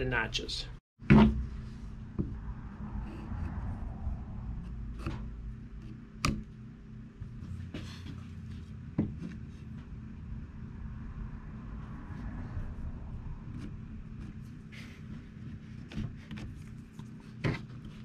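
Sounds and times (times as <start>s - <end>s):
steady low hum: 0.6s - 18.0s.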